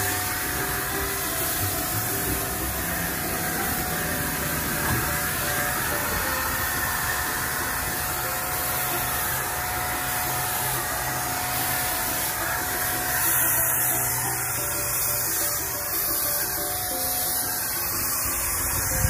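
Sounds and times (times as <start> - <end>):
hiss of air: 0.0 - 19.0
paint sprayer motor humming: 0.0 - 19.0.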